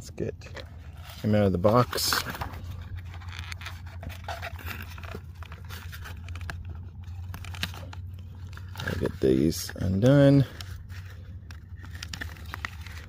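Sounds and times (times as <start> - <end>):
cardboard scraping and rubbing: 0.5 - 13.0.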